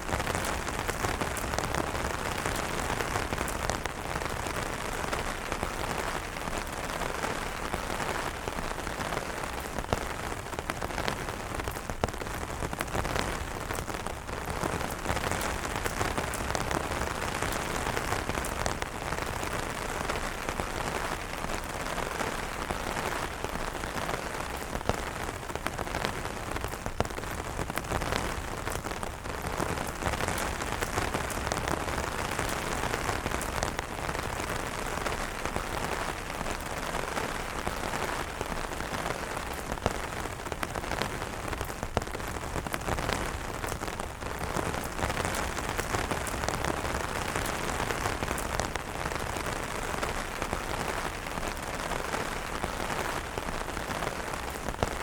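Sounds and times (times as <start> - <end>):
rain pattering on umbrellas: 0.0 - 55.0.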